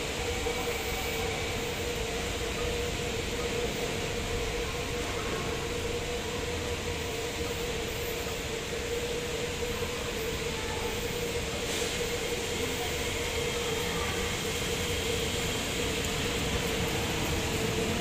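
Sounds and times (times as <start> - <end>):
train humming at platform: 0.0 - 18.0.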